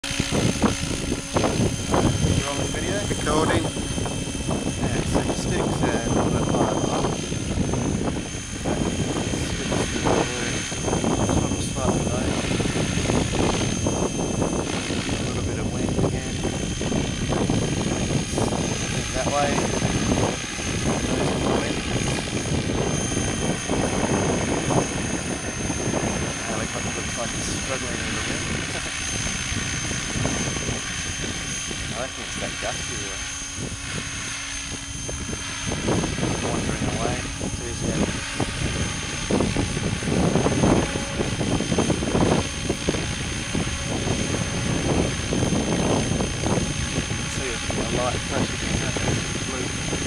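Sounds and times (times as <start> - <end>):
high constant motor whine: 0.0 - 50.0
model helicopter rotor: 0.0 - 50.0
wind rumbling on microphone: 0.0 - 50.0.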